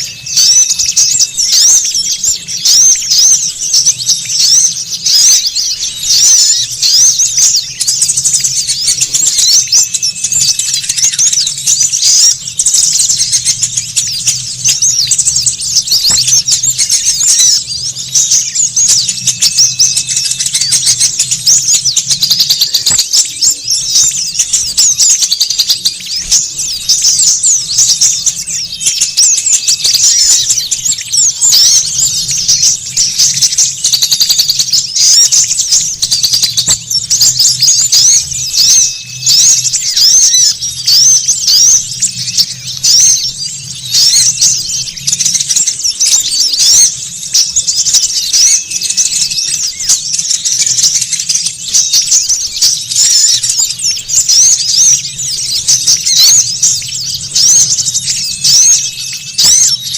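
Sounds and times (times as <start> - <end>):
chorus of small songbirds chirping: 0.0 - 59.9.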